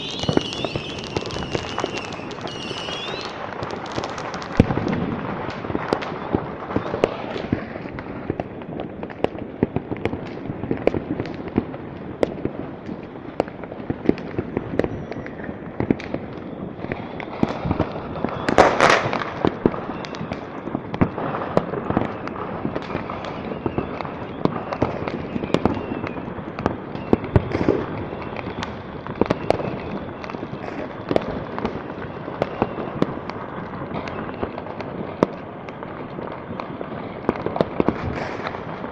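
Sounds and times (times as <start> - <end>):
firecrackers and fireworks crackling: 0.0 - 38.9.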